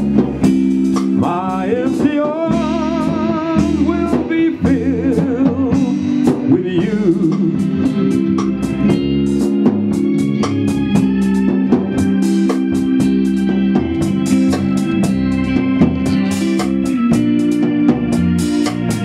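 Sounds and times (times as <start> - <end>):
drums steady beat: 0.0 - 19.0
organ chords: 0.0 - 19.0.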